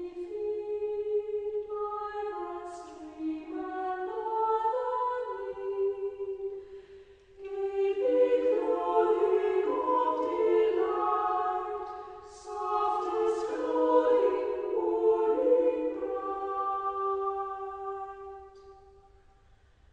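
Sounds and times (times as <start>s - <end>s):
choir singing sustained chords: 0.0s - 19.9s.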